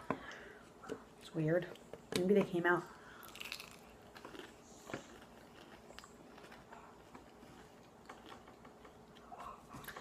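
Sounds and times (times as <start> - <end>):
soft chewing and mouth sounds: 0.2 - 10.0.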